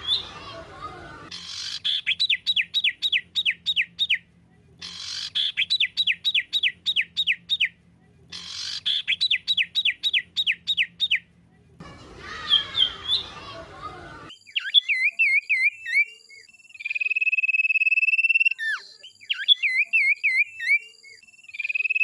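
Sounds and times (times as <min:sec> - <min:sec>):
songbird song: 0:00.0 - 0:22.0.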